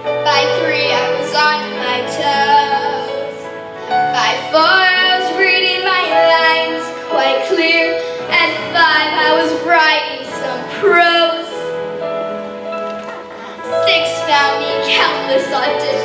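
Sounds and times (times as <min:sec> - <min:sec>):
instrumental accompaniment: 0:00.0 - 0:16.0
girl singing into microphone: 0:00.2 - 0:03.5, 0:04.1 - 0:11.7, 0:13.4 - 0:16.0.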